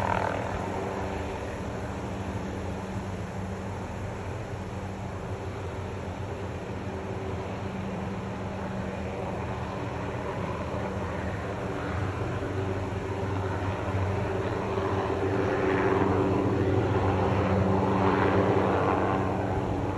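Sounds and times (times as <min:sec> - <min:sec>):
helicopter rotor and engine drone: 0:00.0 - 0:19.9.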